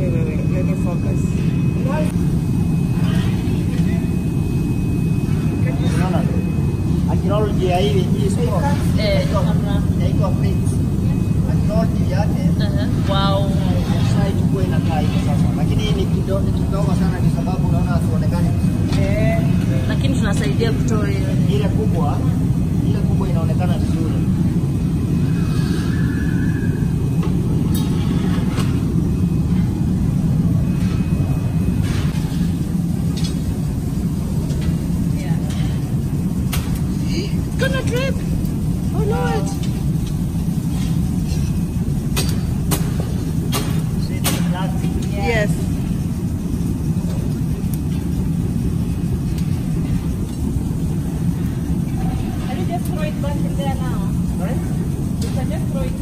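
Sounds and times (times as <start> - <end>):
furnace roar: 0.0 - 56.0.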